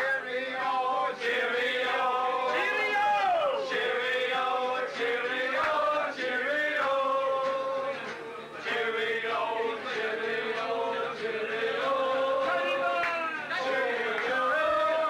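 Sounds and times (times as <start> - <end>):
men singing in chorus: 0.0 - 15.0.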